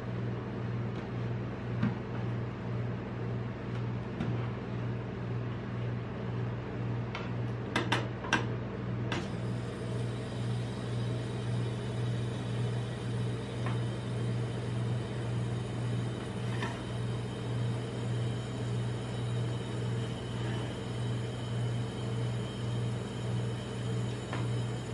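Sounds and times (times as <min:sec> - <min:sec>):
cold plate machine hum: 0:00.0 - 0:24.9.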